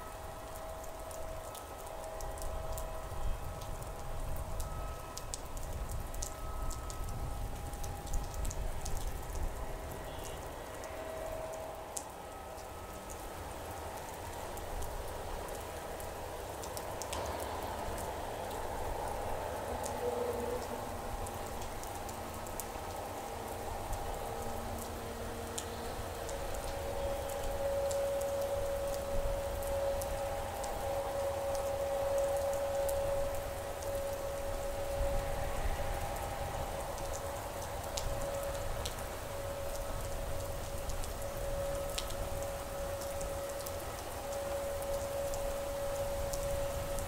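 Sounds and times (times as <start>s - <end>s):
heavy rain rumble: 0.0s - 47.0s
raindrops ticking close by: 0.0s - 47.0s.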